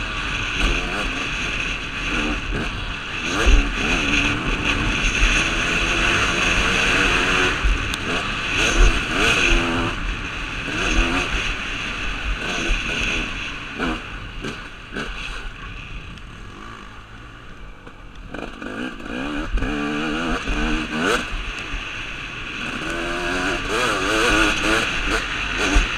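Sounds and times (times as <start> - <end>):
dirt bike engine revving: 0.0 - 17.5, 18.3 - 25.9.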